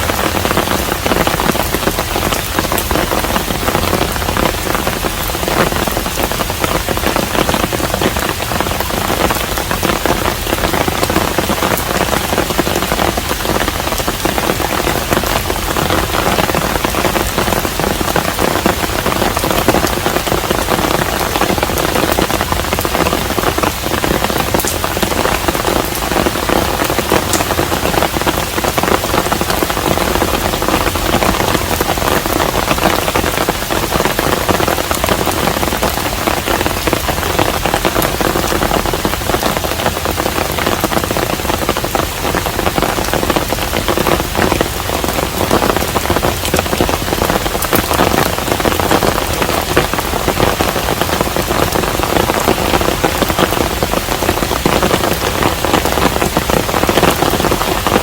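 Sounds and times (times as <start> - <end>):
rain drops ticking: 0.0 - 58.0
rain hiss: 0.0 - 58.0.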